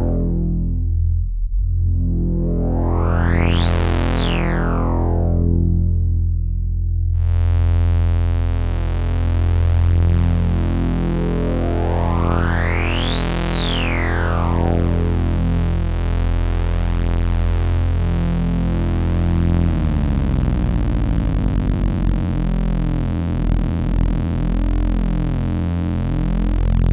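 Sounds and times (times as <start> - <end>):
low synthesizer drone: 0.0 - 26.9.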